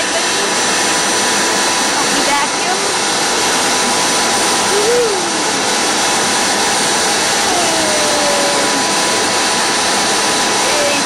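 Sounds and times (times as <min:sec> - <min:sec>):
shop vac running: 0:00.0 - 0:11.0.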